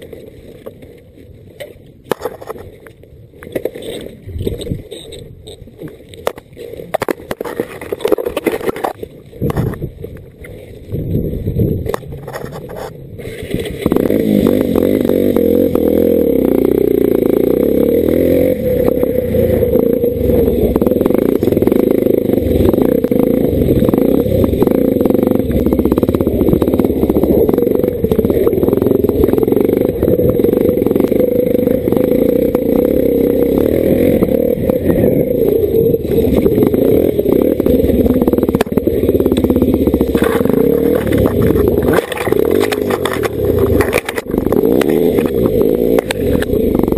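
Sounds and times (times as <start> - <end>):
bike rattling over bumps: 0.0 - 46.9
dirt bike engine under load: 3.5 - 46.9.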